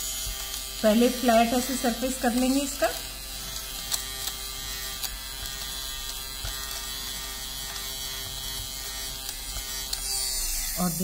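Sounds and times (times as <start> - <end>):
lint remover motor humming: 0.0 - 11.0.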